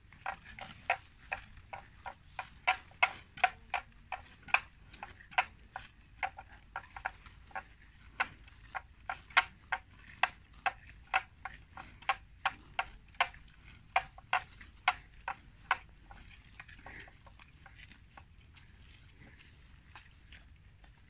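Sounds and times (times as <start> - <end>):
buffalo tearing and chewing plants: 0.0 - 21.0.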